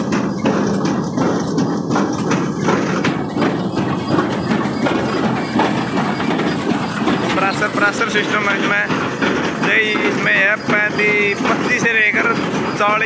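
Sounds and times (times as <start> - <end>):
baler mechanical clatter: 0.0 - 13.0
tractor engine: 0.0 - 13.0.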